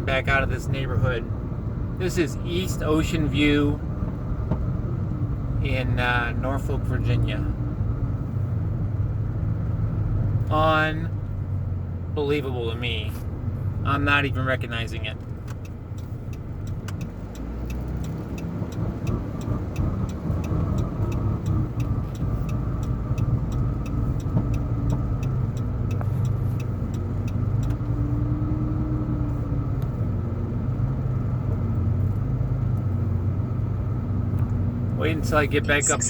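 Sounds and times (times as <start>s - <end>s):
car engine: 0.0s - 36.0s
road noise: 0.0s - 36.0s.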